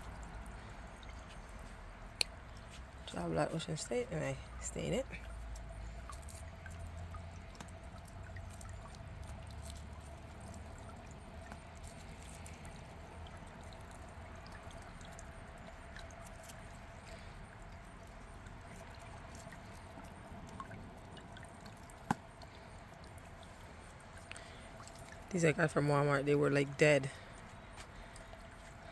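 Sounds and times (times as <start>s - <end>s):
water fountain trickling: 0.0s - 28.9s.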